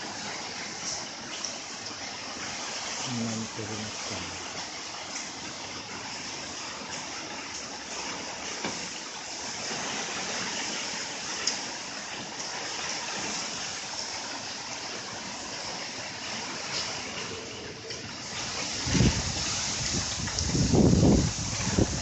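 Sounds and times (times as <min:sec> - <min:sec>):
wind and rain rushing: 0:00.0 - 0:22.0.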